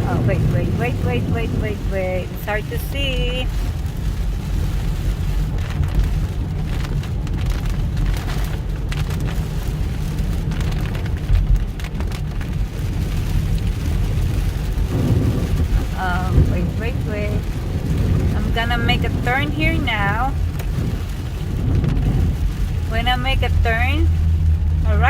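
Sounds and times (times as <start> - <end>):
heavy rain pounding on a car: 0.0 - 25.0
road and engine rumble: 0.0 - 25.0
sharp taps of raindrops: 3.3 - 24.9.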